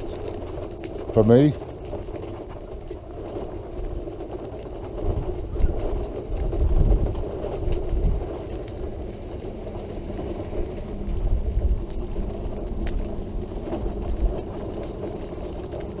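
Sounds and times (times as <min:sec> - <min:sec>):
low rumbling bursts: 0:00.0 - 0:16.0
wheelchair wheels rumbling on path: 0:00.0 - 0:16.0.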